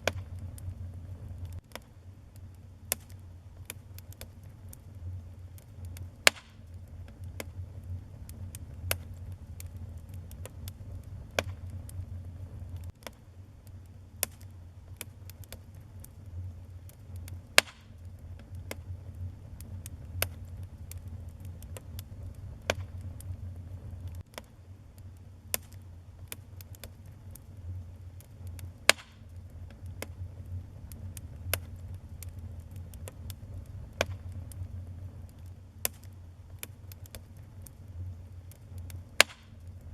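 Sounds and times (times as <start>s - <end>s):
fire crackling and popping: 0.0s - 39.9s
fire low rumble: 0.0s - 39.9s
wood fire snapping loudly: 0.0s - 39.9s.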